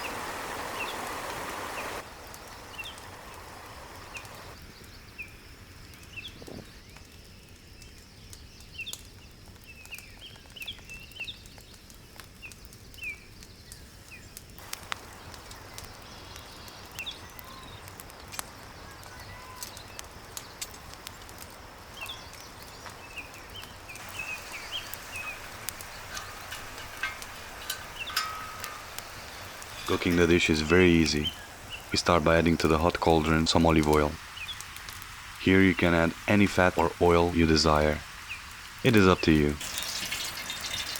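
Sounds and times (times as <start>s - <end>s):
small birds chirping: 0.0s - 40.9s
wood fire crackling and popping: 0.0s - 40.9s.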